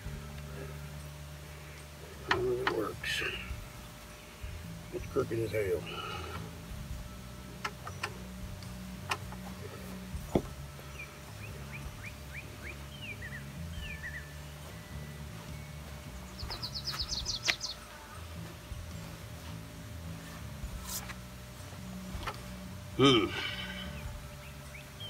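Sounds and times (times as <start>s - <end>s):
low background rumble: 0.0s - 25.0s
songbirds chirping and trilling: 0.0s - 25.0s.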